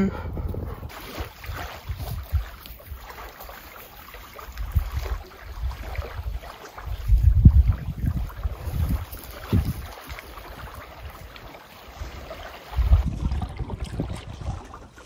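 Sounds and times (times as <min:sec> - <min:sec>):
wind gusting over microphone: 0:00.0 - 0:03.0, 0:04.6 - 0:11.2, 0:12.0 - 0:15.0.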